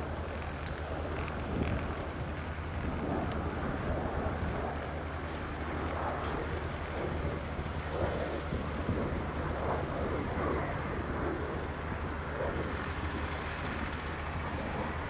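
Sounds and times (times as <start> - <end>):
distant jet engine rumble: 0.0 - 15.0
wind noise on microphone: 0.0 - 15.0.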